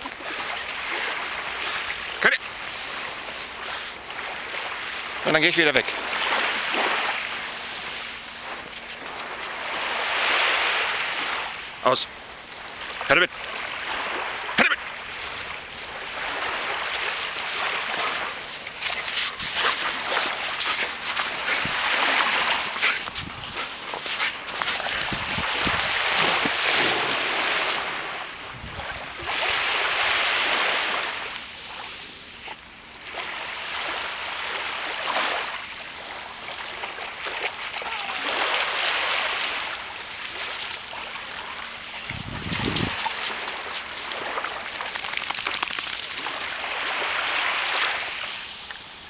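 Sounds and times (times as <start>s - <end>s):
small waves washing onto shore: 0.0s - 48.8s.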